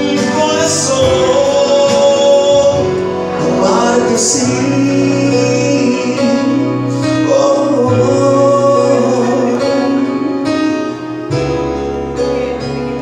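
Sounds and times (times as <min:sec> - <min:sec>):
backing track music: 0:00.0 - 0:13.0
man singing into microphone: 0:00.0 - 0:13.0.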